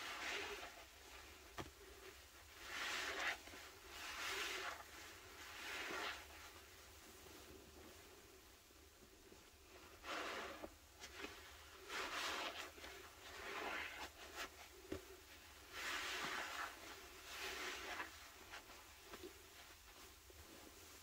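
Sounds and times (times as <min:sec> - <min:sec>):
sponges squishing with suds: 0:00.0 - 0:07.6, 0:09.6 - 0:21.0.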